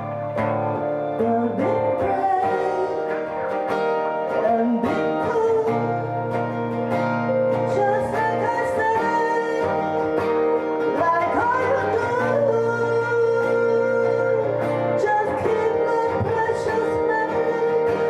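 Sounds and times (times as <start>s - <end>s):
acoustic guitar playing: 0.0s - 18.0s
person singing: 0.0s - 18.0s.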